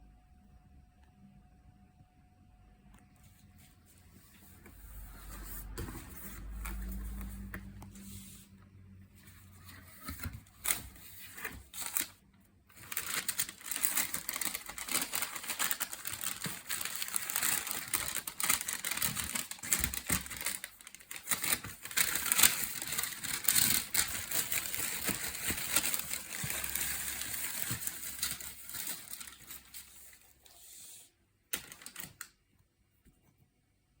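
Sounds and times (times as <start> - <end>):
cardboard and tissue paper rustling: 3.2 - 8.5, 9.1 - 32.2.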